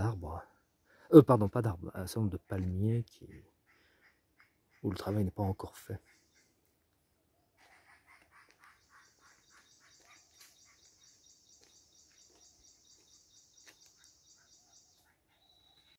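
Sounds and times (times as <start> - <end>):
faint birdsong: 0.0 - 15.9.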